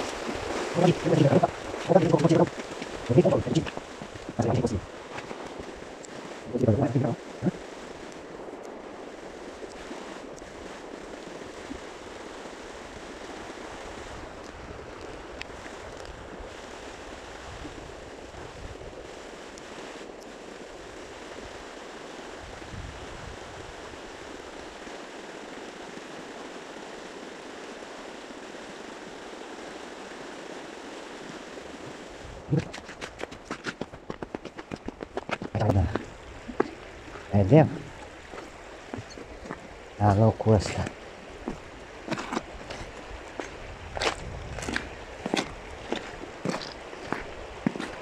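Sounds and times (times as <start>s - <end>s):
wind buffeting microphone: 0.0s - 19.5s, 22.3s - 24.8s, 31.6s - 48.0s
fast-flowing river water: 0.0s - 48.0s.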